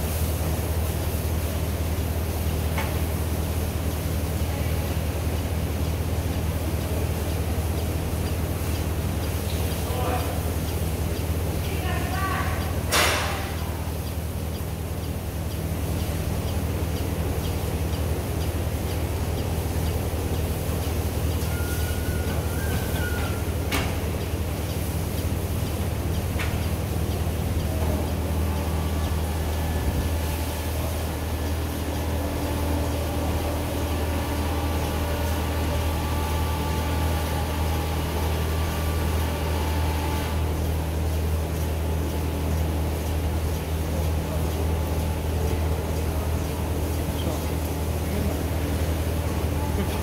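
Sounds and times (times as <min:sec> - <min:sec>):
milking machinery humming: 0:00.0 - 0:50.0.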